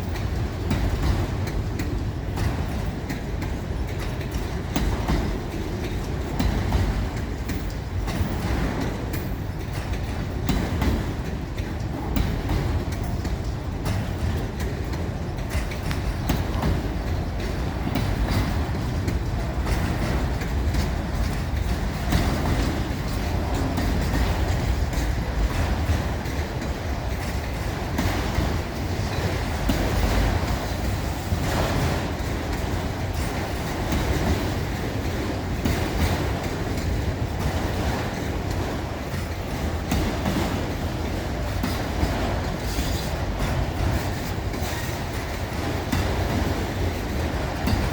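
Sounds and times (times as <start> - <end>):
train wheels clicking over rail joints: 0.0 - 47.9.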